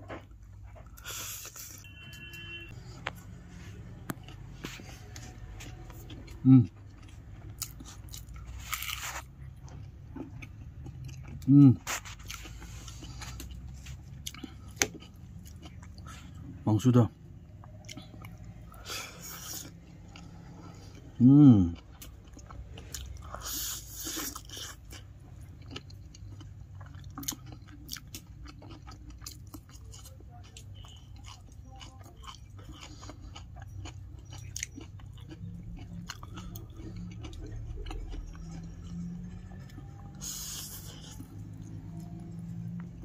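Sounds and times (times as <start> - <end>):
person chewing noodles: 0.0 - 16.6, 17.4 - 43.0.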